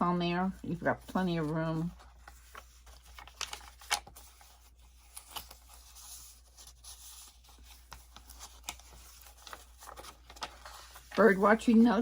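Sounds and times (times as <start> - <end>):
paper pages rustling: 0.4 - 12.0.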